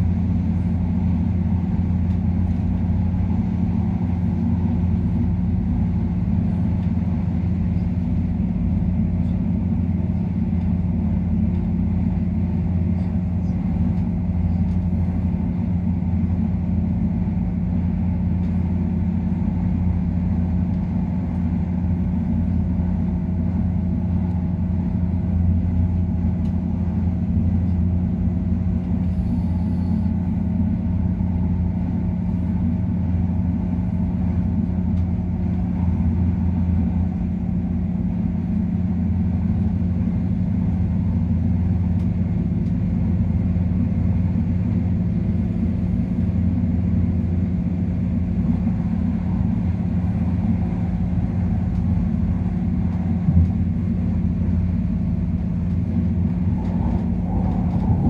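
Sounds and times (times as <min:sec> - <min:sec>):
faint constant hum: 0:00.0 - 0:58.0
train wheels rumbling on track: 0:00.0 - 0:58.0.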